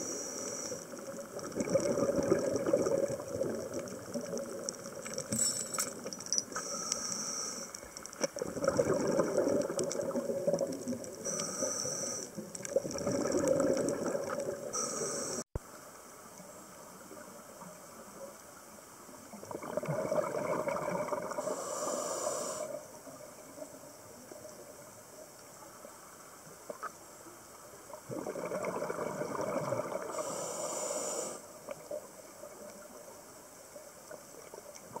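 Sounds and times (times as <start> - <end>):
regulator bubbling and hiss: 0.0 - 15.6, 19.2 - 26.9, 27.7 - 33.2
water noise: 0.0 - 35.0.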